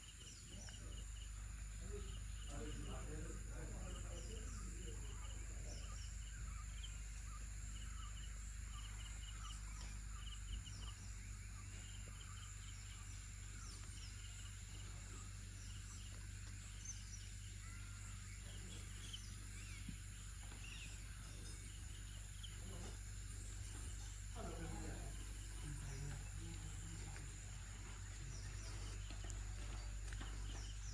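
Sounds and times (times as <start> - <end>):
birds chirping: 0.0 - 30.9
high insect buzz: 0.0 - 30.9
low hum: 0.0 - 30.9.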